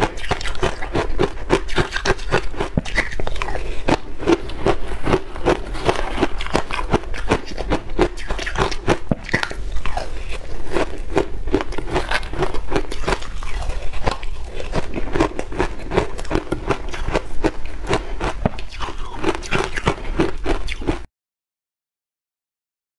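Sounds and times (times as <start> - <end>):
crunching and chewing shaved ice: 0.0 - 21.1.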